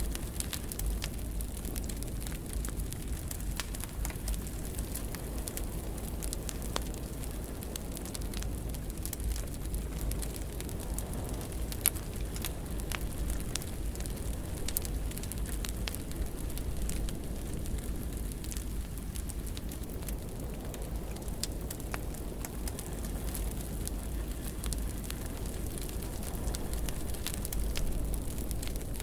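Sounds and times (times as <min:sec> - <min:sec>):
low rumble of flame: 0:00.0 - 0:29.0
wood fire crackling: 0:00.0 - 0:29.0.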